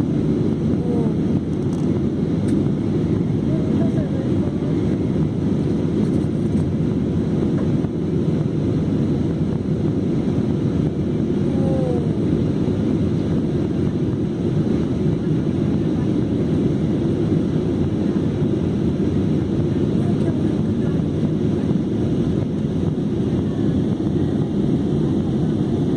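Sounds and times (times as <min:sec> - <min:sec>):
jet cabin engine rumble: 0:00.0 - 0:25.9.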